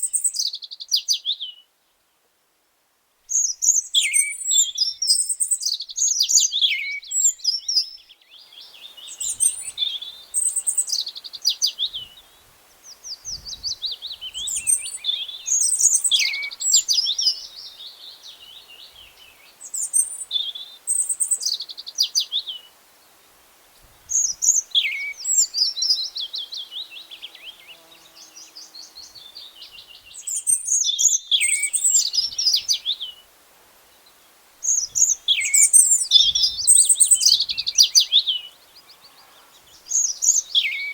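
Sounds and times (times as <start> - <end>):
songbirds singing: 0.0 - 2.3, 3.3 - 40.9.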